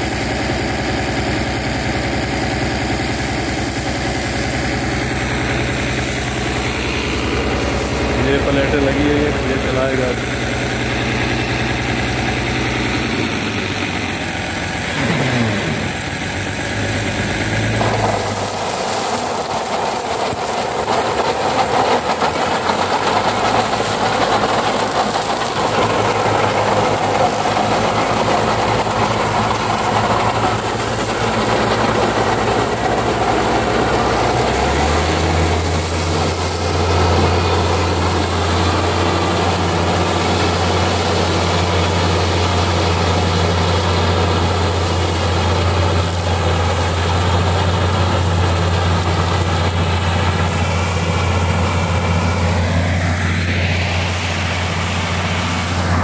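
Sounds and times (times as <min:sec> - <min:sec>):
mower cutting grass: 0:00.0 - 0:56.0
tractor engine running: 0:00.0 - 0:56.0.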